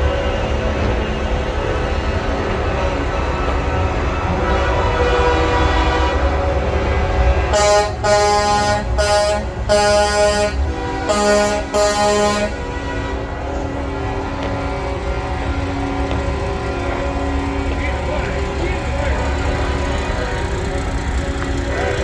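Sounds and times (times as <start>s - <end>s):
truck air horns chorus: 2.4s - 22.0s
air horn blasts: 3.4s - 22.0s.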